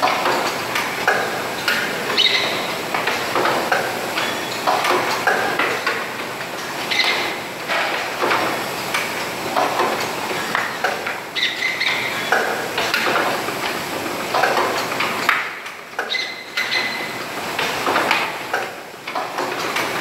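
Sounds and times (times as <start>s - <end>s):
capping machine hisses and clacks: 0.0s - 20.0s.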